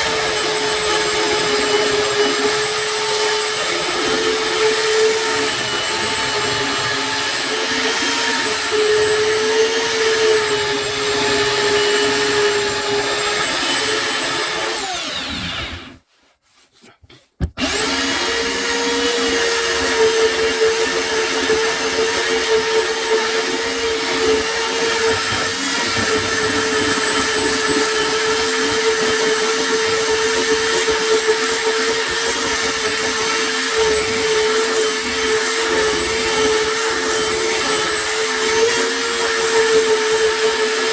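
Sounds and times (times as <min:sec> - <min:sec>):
electric power sander running: 0:00.0 - 0:16.0, 0:17.6 - 0:40.9.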